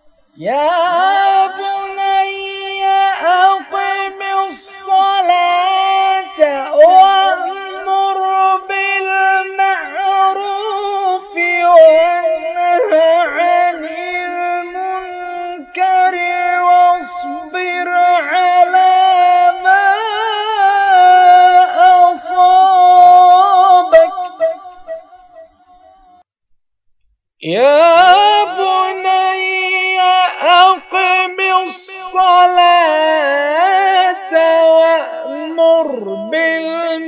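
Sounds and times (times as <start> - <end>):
man reciting melodically: 0.1 - 25.0, 27.4 - 37.0.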